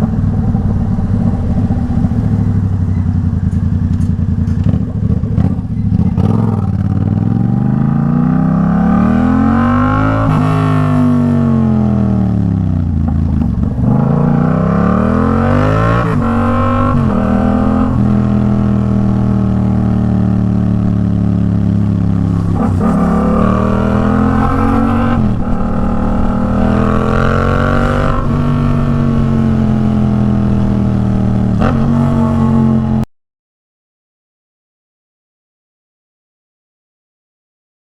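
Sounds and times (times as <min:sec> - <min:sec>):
motorcycle engine revving: 0:00.0 - 0:33.1.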